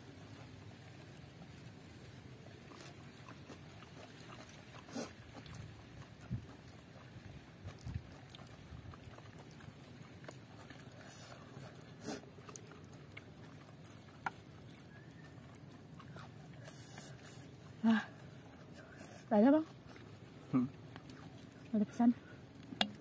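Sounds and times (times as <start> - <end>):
people chewing: 0.0 - 23.0
lip smacks: 2.6 - 18.8, 19.8 - 23.0.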